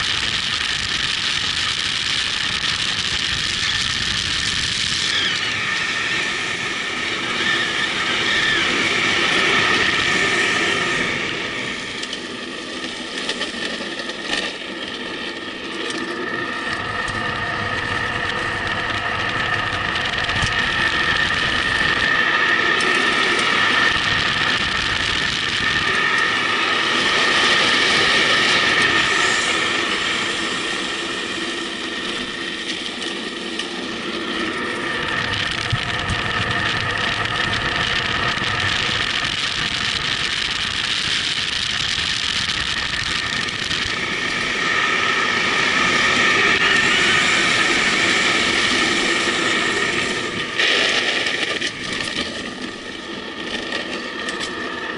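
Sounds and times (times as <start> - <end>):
steady whine: 0.0 - 54.9
tyres rolling on asphalt: 6.2 - 54.9.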